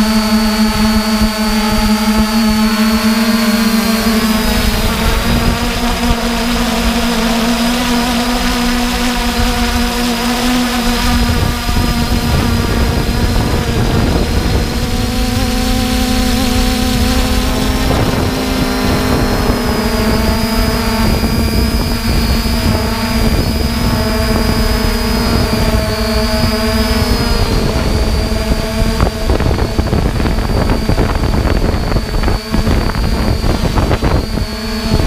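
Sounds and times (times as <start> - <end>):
drone propellers whining: 0.0 - 35.0
wind buffeting microphone: 0.0 - 35.0.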